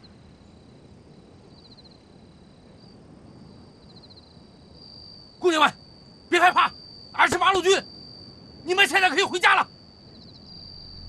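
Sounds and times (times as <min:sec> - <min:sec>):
crickets chirping: 0:00.0 - 0:11.0
low background hiss: 0:00.0 - 0:11.0.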